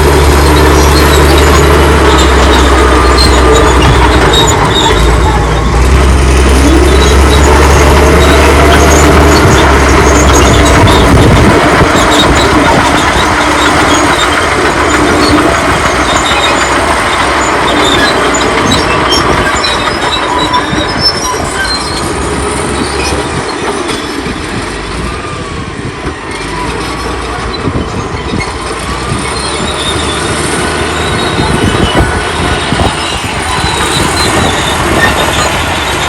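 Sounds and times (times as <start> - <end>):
bulldozer diesel engine: 0.0 - 36.0
high machinery squealing: 0.0 - 36.0
steel tracks rolling: 0.0 - 36.0.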